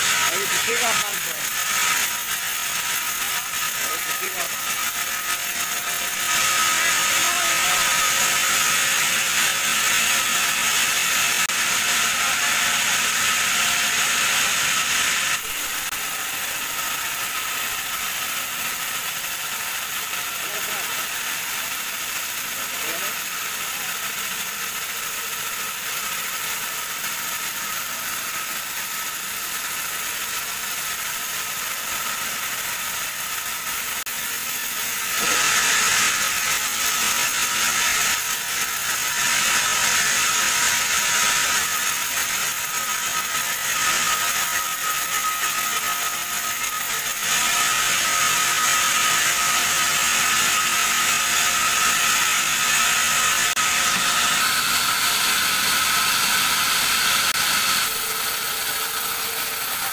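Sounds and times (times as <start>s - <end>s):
band saw whining: 0.0s - 59.9s.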